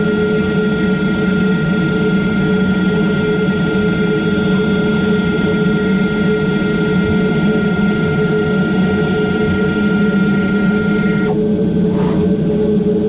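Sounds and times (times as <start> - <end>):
high machine whine: 0.0 - 13.0
milling machine hum: 0.0 - 13.0.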